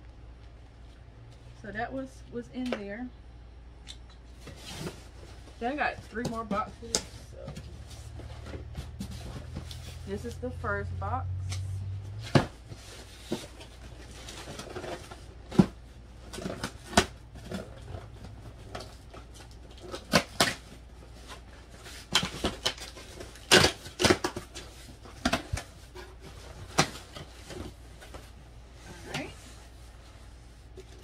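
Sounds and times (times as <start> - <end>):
cardboard rustling: 4.4 - 10.4, 12.2 - 31.0.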